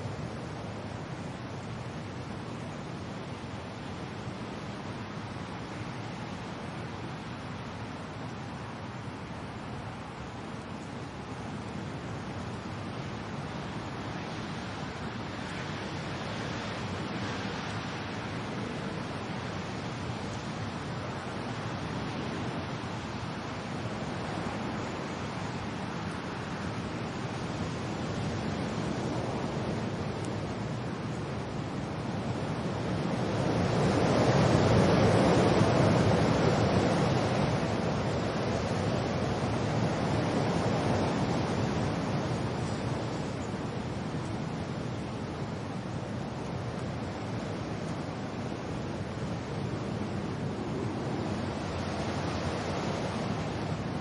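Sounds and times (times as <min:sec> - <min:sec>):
rain: 0:00.0 - 0:54.0
wind: 0:00.0 - 0:54.0.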